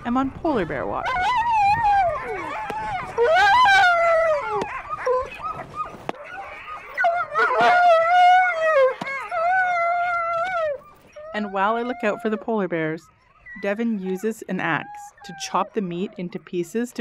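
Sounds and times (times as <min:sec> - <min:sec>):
dogs yipping: 0:00.1 - 0:17.0
dogs howling: 0:00.4 - 0:16.6.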